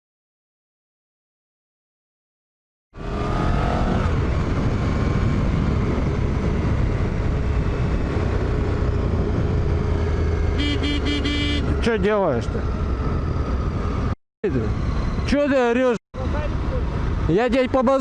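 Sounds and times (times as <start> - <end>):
road and wind noise: 2.9 - 18.0.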